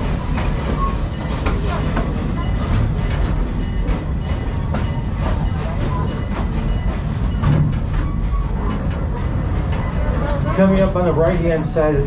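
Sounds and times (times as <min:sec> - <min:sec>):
train rumbling on track: 0:00.0 - 0:12.0
wheels clicking on rails: 0:00.0 - 0:12.0.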